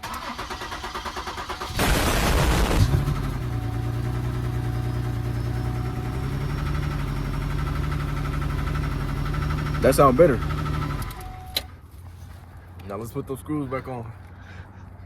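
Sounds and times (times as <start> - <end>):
car engine starting and idling: 0.0 - 12.4.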